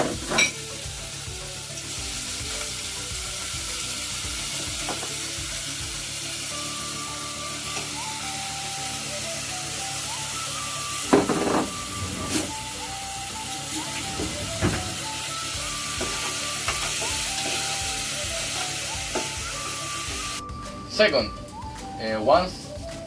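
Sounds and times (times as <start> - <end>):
vegetables and beef sizzling in oil: 0.0 - 22.2.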